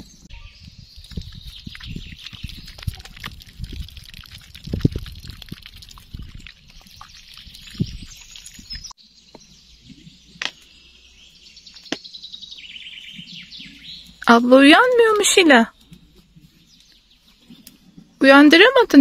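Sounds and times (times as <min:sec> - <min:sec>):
small birds chirping and singing: 0:00.0 - 0:19.0.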